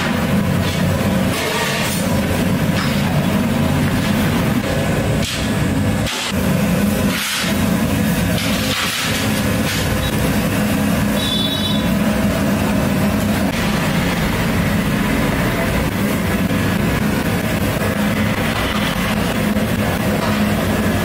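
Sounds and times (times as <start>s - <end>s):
steam boiler droning and hissing: 0.0s - 21.0s.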